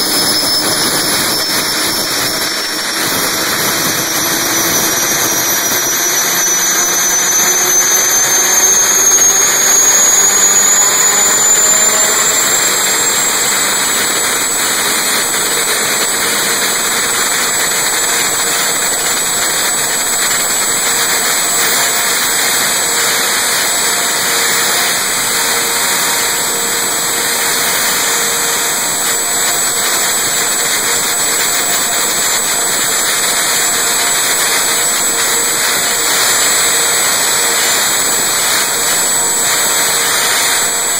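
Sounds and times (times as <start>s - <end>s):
gas turbine engine whine: 0.0s - 40.9s.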